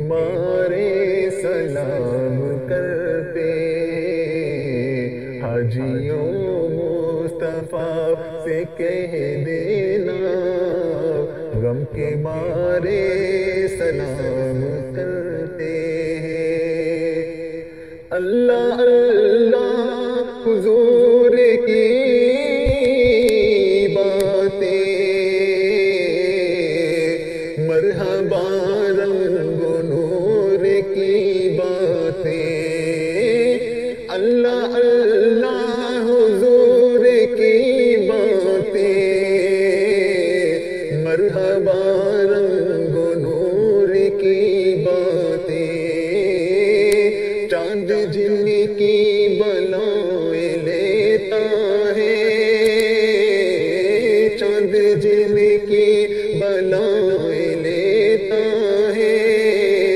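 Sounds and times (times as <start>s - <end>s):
chanted devotional vocal: 0.0s - 59.9s.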